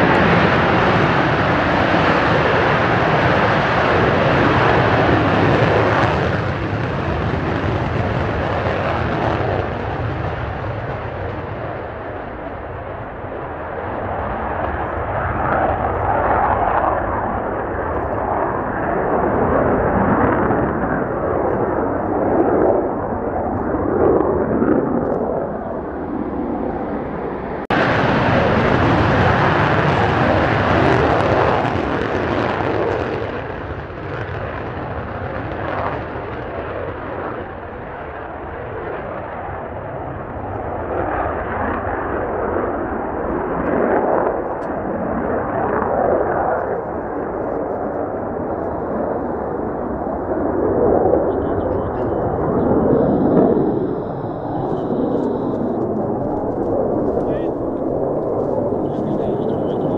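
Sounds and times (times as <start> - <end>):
second jet taking off: 0.0 - 37.6, 38.2 - 59.9
jet engine afterburner roar: 0.0 - 59.9.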